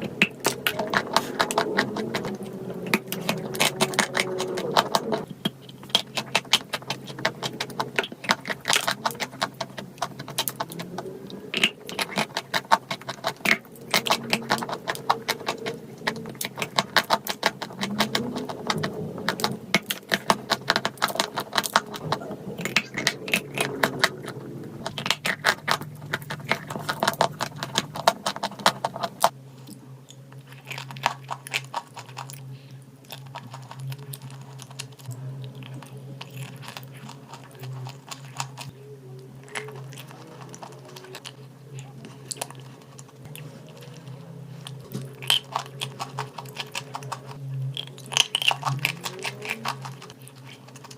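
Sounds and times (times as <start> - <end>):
dry clay crunching: 0.0 - 50.9
steady low hum: 0.0 - 50.9.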